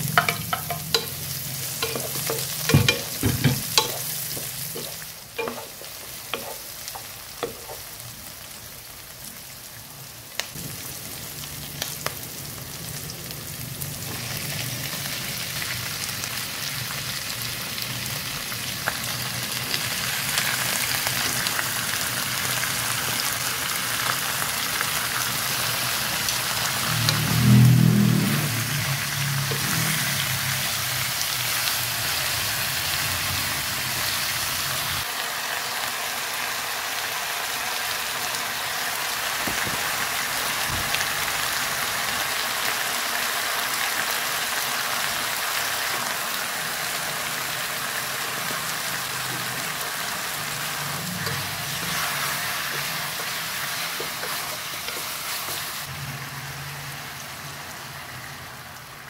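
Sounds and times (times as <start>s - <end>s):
meat sizzling in hot oil: 0.0s - 59.0s.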